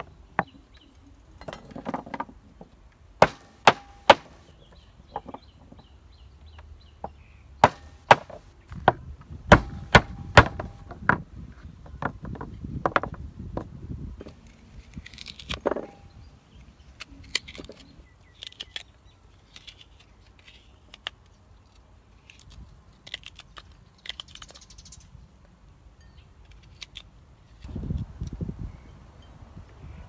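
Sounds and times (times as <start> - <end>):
faint outdoor background: 0.0 - 30.0.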